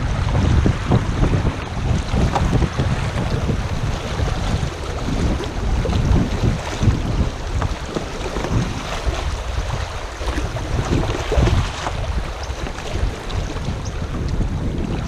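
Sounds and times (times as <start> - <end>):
river water washing: 0.0 - 15.0
wind buffeting microphone: 0.0 - 15.0.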